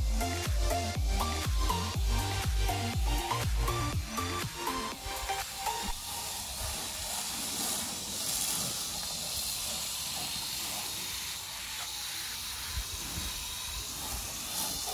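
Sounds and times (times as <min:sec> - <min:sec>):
foam gun spraying hiss: 0:00.0 - 0:14.9.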